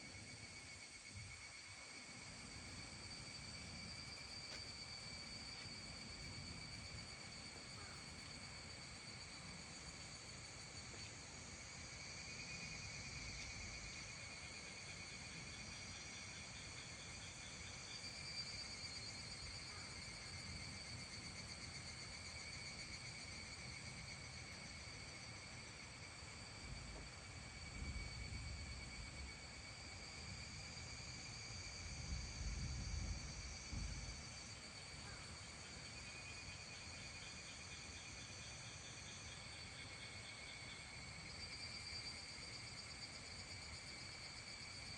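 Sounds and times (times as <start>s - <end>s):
insects trilling: 0.0s - 44.9s
pulsing insect trills: 0.0s - 44.9s.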